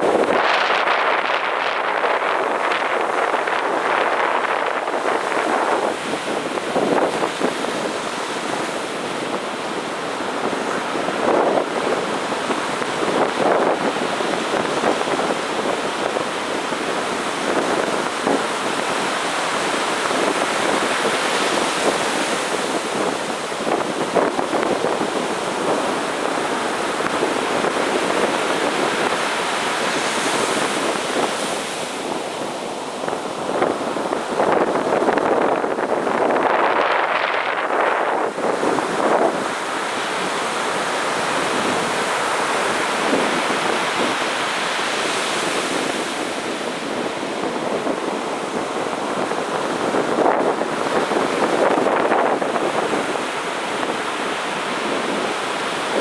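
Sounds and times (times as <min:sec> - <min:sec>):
waves breaking on beach: 0:00.0 - 0:56.0
wind buffeting microphone: 0:00.0 - 0:56.0.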